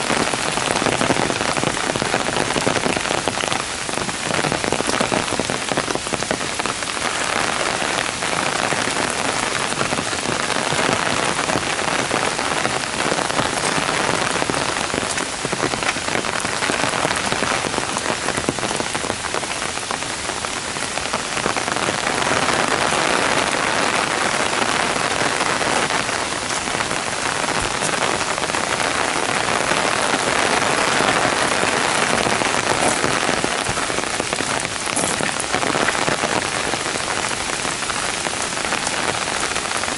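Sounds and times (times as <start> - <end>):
heavy rain on gravel and foliage: 0.0 - 39.9
sharp raindrop ticks: 0.1 - 19.6, 24.8 - 39.9.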